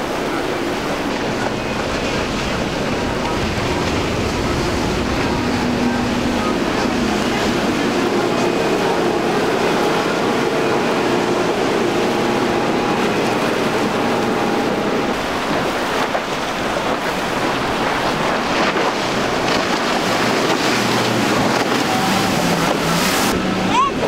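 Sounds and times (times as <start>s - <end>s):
outboard boat engines running: 0.0s - 24.0s
water spray and waves: 0.0s - 24.0s
wind rushing over microphone: 0.0s - 24.0s.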